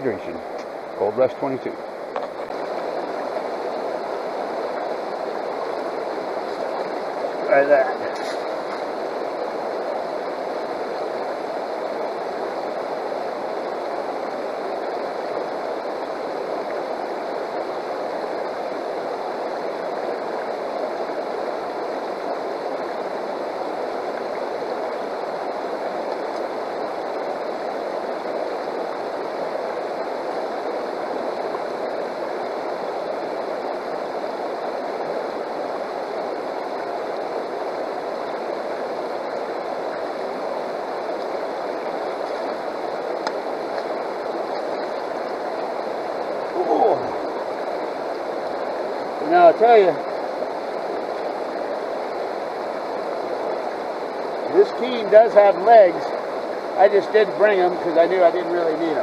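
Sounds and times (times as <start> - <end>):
river water rushing over rocks: 0.1 - 59.0.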